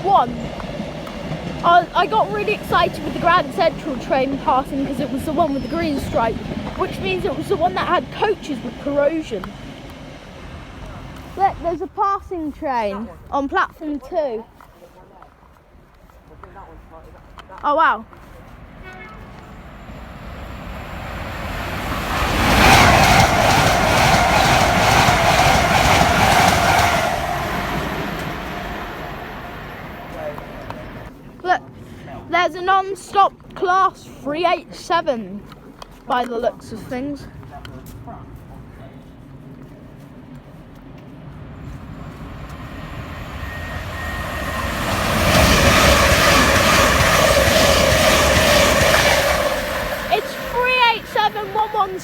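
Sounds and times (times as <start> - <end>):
train passing at speed: 0.0 - 14.4, 16.3 - 35.2, 36.2 - 52.0
wheels clattering on rails: 0.0 - 15.3, 16.0 - 31.6, 39.2 - 52.0.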